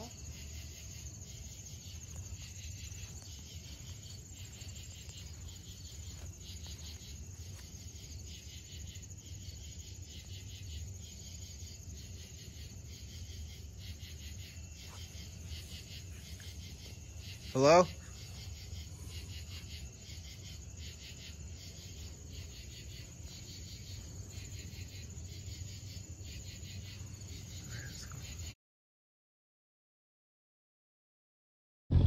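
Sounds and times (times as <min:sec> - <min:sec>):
steady low hum: 0:00.0 - 0:28.2
insects chirping: 0:00.0 - 0:28.6.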